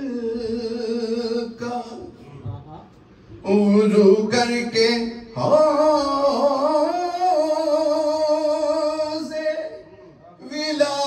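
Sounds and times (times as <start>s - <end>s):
man singing a lament: 0.0s - 2.3s, 3.4s - 11.0s.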